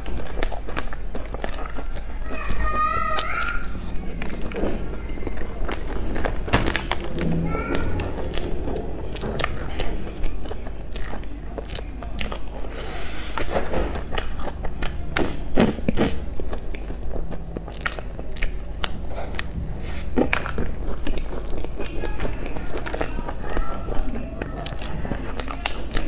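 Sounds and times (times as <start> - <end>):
biting and chewing soft bun: 0.0 - 26.0
mouth clicks and crunches: 0.0 - 26.0.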